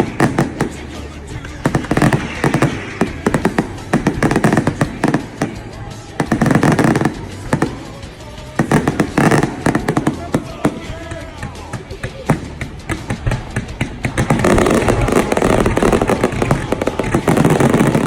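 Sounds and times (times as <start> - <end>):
fireworks popping: 0.0 - 18.0.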